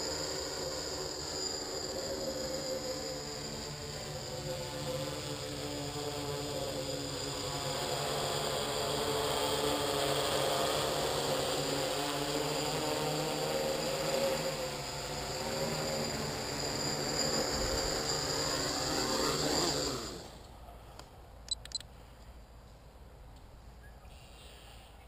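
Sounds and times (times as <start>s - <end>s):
hexacopter propellers buzzing: 0.0s - 20.5s.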